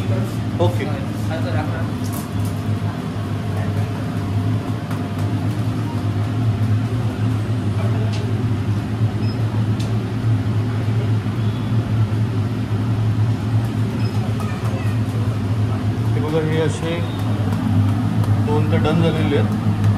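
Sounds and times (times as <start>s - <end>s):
low mechanical hum: 0.0s - 19.9s.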